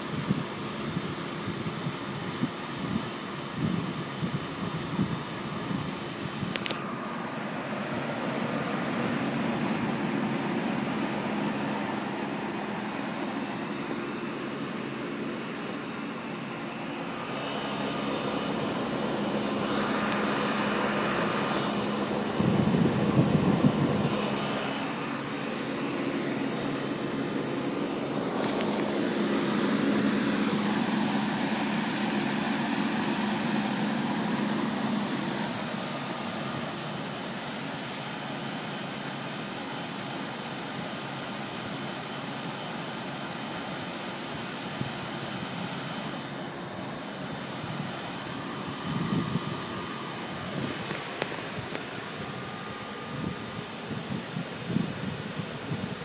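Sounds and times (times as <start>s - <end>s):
heat pump hum and fan: 0.0s - 56.0s.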